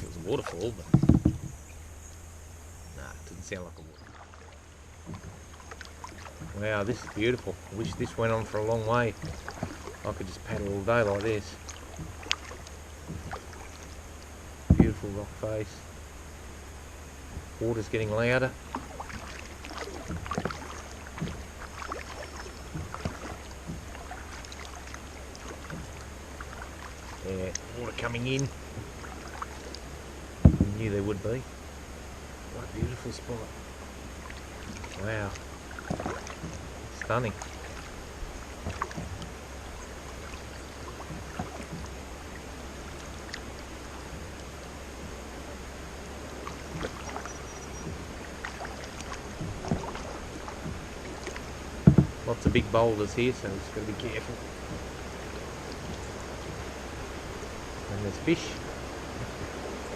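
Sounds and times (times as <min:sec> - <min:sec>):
kayak paddle splashing: 0:00.0 - 0:59.9
flowing water of rapids: 0:03.0 - 0:59.9.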